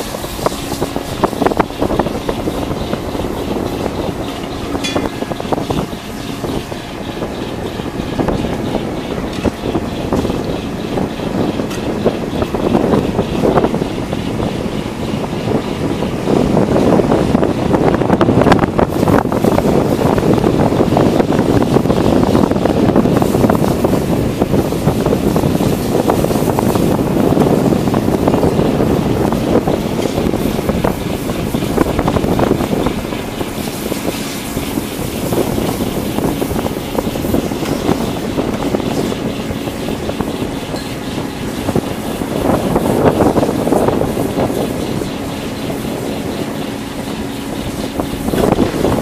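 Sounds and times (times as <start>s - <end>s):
boat engine and deck machinery: 0.0s - 49.0s
wind buffeting microphone: 0.0s - 49.0s.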